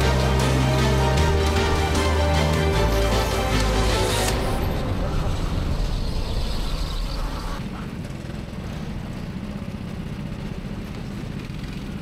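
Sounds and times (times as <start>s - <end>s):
go-kart engine rumble: 0.0s - 12.0s
road noise: 0.0s - 12.0s.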